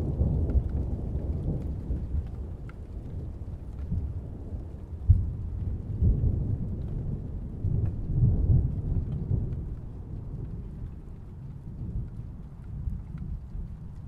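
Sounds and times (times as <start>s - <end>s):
distant thunder rumbling: 0.0s - 14.0s.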